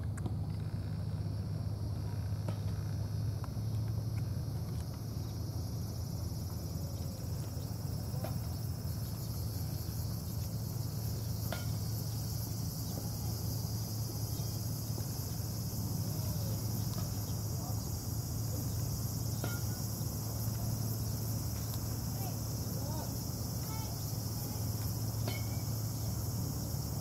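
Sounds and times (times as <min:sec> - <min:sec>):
high-pitched insect chorus: 0:00.7 - 0:27.0.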